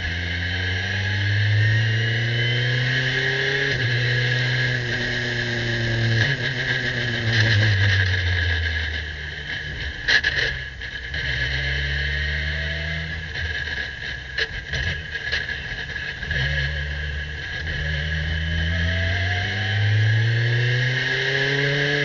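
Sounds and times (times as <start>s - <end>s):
race car engine: 0.0s - 22.0s.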